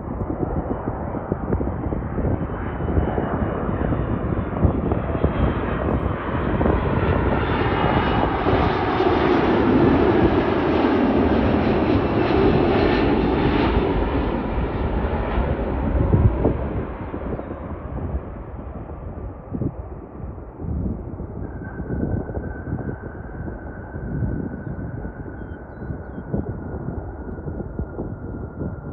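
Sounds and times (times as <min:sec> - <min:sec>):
jet airliner engines: 0:00.0 - 0:28.9.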